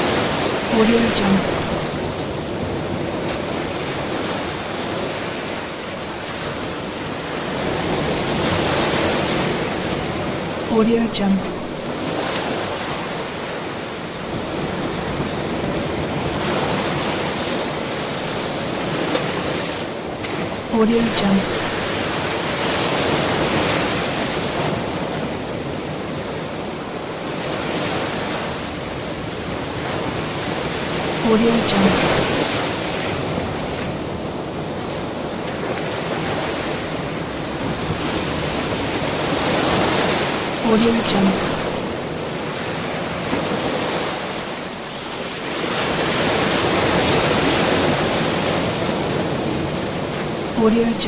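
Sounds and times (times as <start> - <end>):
ocean surf rushing onto shore: 0.0 - 10.8, 11.4 - 51.0.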